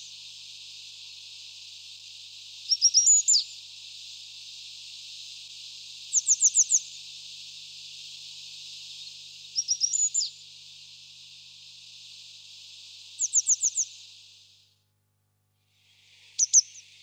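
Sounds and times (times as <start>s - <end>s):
songbird singing: 0.0s - 14.4s, 16.0s - 17.0s
steady high hiss: 0.0s - 14.9s, 15.5s - 17.0s.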